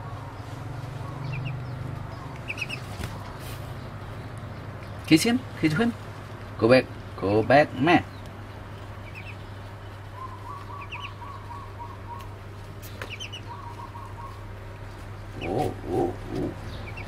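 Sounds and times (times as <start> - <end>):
duckling peeping: 0.0 - 5.9, 7.2 - 17.0
steady low hum: 0.0 - 17.0.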